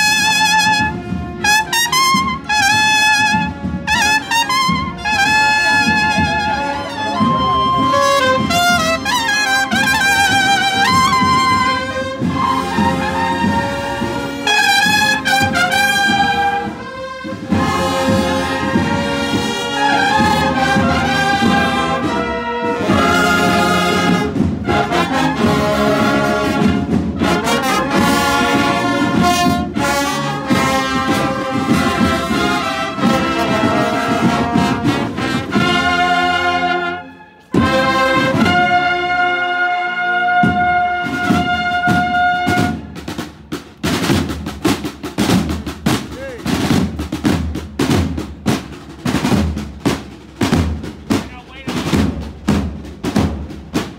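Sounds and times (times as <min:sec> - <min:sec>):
bugle band playing a march: 0:00.0 - 0:53.9.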